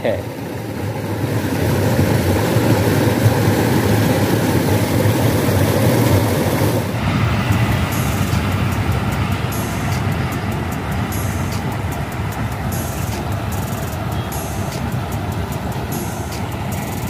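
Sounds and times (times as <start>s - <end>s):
distant passenger train passing: 0.0s - 17.0s
low rumbling noise: 0.0s - 17.0s
train wheels clicking: 1.4s - 17.0s.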